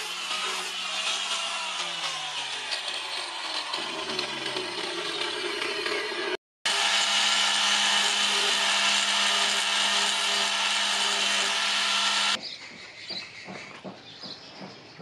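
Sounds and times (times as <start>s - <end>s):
angle grinder grinding steel: 0.0s - 12.4s.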